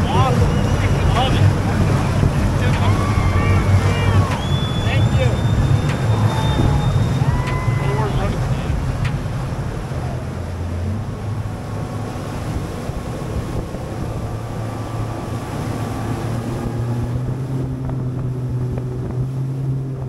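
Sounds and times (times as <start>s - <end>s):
outboard motor running: 0.0s - 20.0s
water rushing past hull: 0.0s - 20.0s
wind buffeting microphone: 0.0s - 20.0s.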